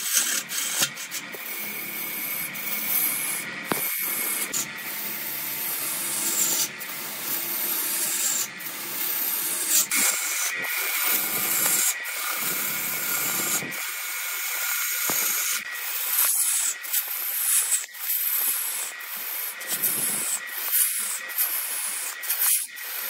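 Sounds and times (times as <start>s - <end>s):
wood lathe gouge scraping: 0.0s - 23.0s.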